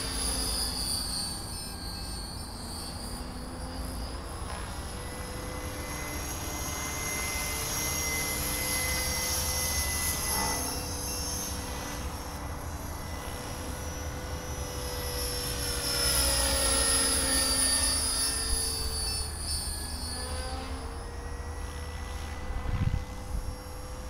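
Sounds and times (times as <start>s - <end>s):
model helicopter motor whine: 0.0s - 24.0s.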